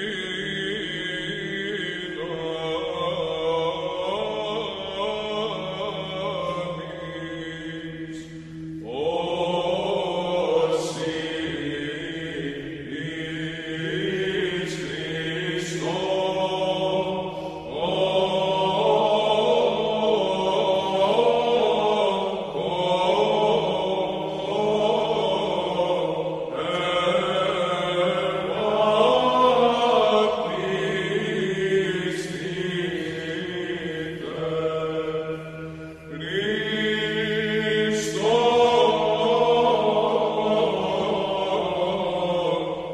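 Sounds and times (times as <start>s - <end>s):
chanted voices: 0.0s - 42.9s.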